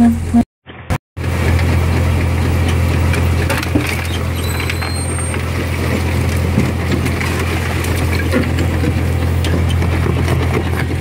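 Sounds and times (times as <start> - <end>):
crusher engines droning: 1.2 - 11.0.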